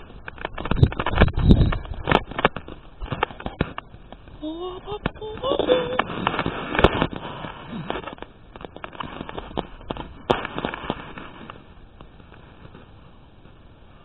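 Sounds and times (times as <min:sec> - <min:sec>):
grass and plants rustling: 0:00.0 - 0:14.0.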